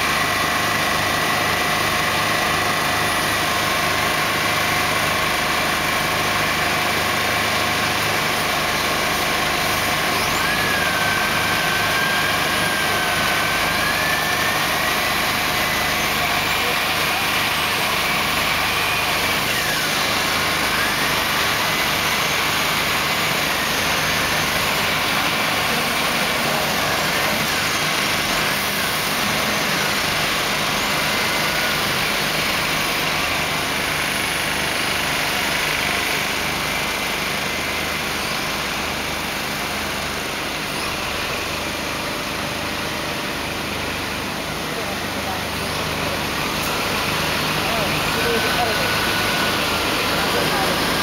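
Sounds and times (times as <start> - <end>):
truck diesel engine running: 0.0 - 51.0.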